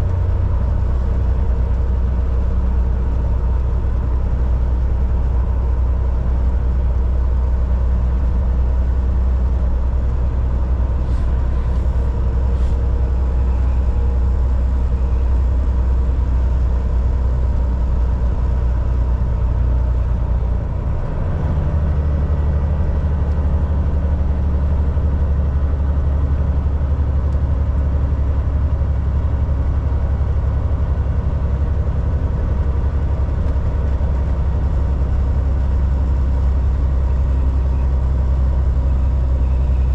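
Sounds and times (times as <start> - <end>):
road and cab noise: 0.0 - 39.9
truck diesel engine running: 0.0 - 39.9.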